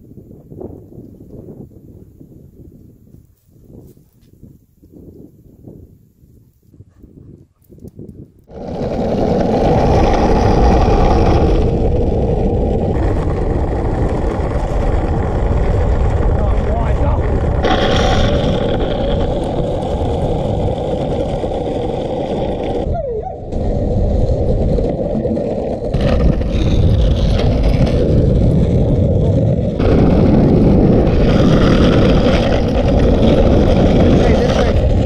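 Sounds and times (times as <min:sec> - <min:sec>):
skateboard wheels rolling on asphalt: 0:00.0 - 0:06.5, 0:07.9 - 0:35.0
wind on microphone: 0:00.0 - 0:35.0.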